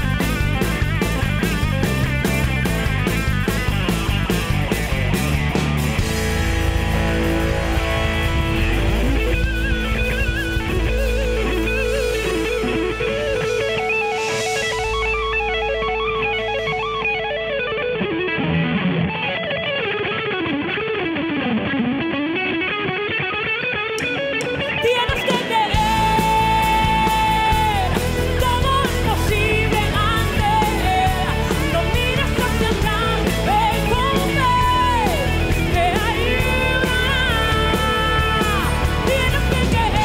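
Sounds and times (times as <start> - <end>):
bass guitar: 0.0 - 40.0
drums: 0.0 - 40.0
lead guitar solo: 0.0 - 40.0.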